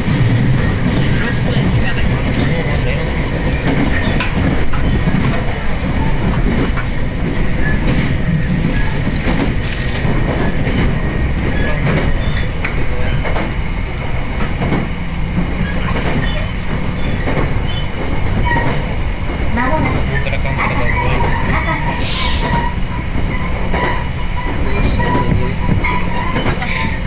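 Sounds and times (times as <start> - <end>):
wheels rumbling on rails: 0.0 - 27.0
wheels clicking over rail joints: 0.2 - 13.6, 14.4 - 27.0.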